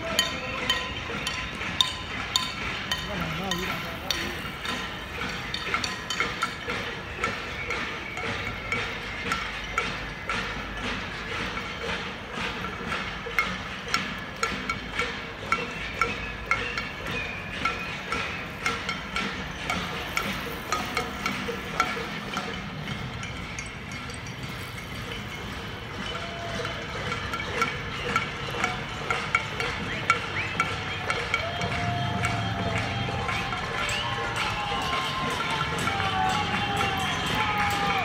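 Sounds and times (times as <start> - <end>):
street noise: 0.0 - 38.0.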